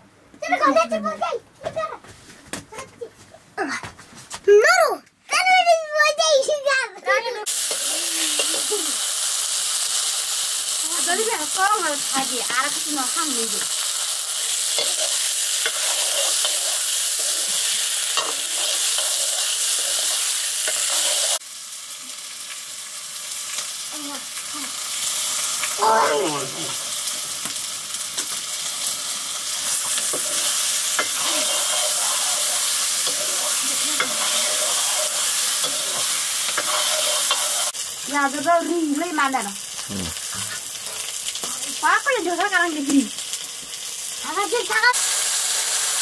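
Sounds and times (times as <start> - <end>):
vegetables sizzling in oil: 7.4 - 46.0.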